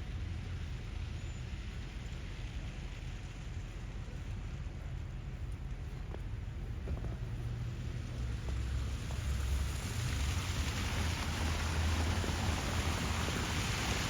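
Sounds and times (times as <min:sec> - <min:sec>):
hiss of wet slushy street: 0:00.0 - 0:14.0
wind rumbling on microphone: 0:00.0 - 0:14.0.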